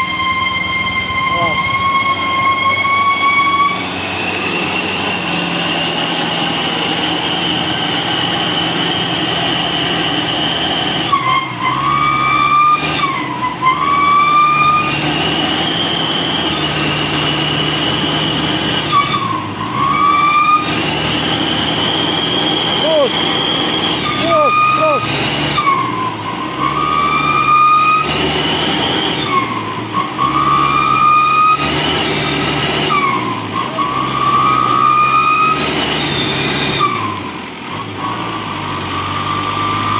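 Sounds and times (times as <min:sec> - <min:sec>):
truck diesel engine whining: 0:00.0 - 0:39.9.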